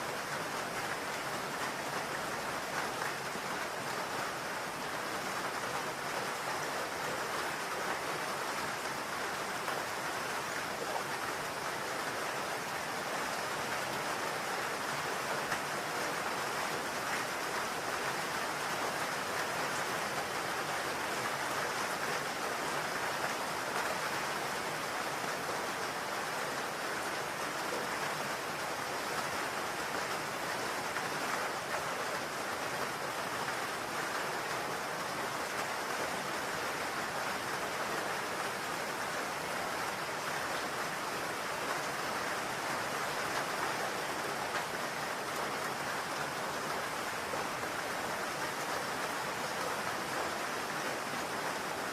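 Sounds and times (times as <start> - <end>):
rain on a roof: 0.0 - 51.9.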